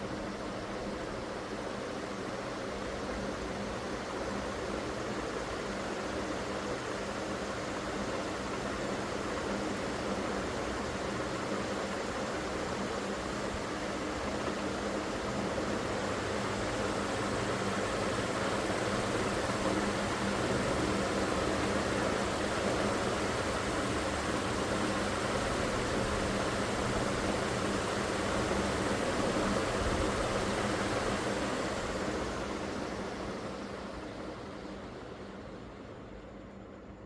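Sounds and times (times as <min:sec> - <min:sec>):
ceiling fan air rush: 0:00.0 - 0:37.0.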